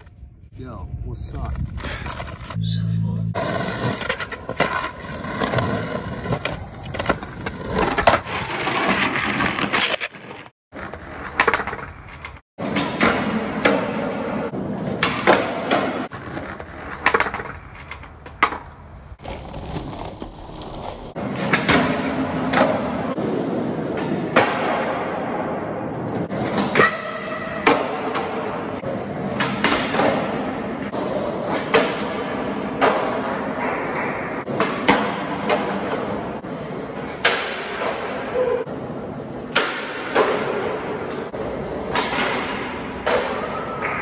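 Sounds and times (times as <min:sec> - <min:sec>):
skateboard wheels rolling on concrete: 0:01.1 - 0:02.6, 0:03.4 - 0:44.0
skateboard cracking and clacking: 0:03.4 - 0:25.0, 0:26.0 - 0:38.3, 0:39.3 - 0:44.0.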